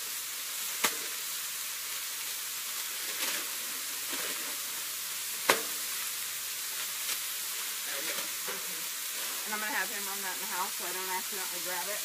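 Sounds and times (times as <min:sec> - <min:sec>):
burger patties sizzling on griddle: 0:00.0 - 0:12.0.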